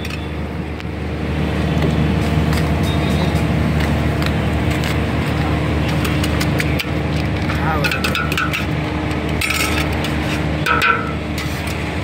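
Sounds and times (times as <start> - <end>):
traffic engines humming: 0.0 - 12.0.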